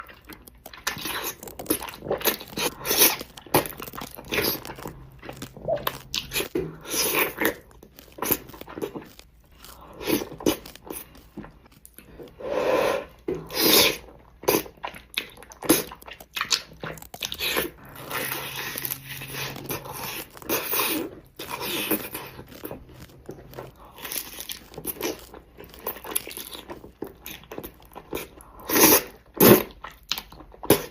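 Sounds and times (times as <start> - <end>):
person chewing and biting: 0.0 - 30.9.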